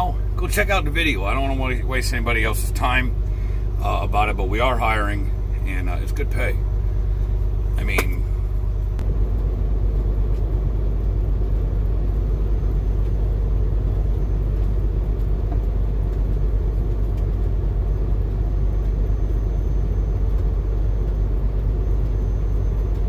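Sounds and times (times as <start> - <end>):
low machine rumble: 0.0 - 23.0.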